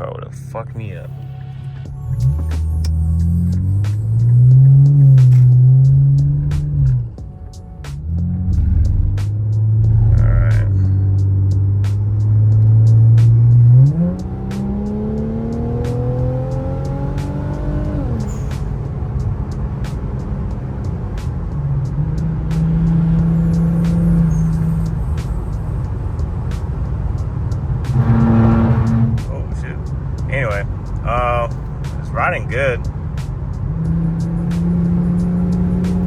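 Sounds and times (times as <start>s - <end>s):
car engine accelerating: 1.1s - 36.0s.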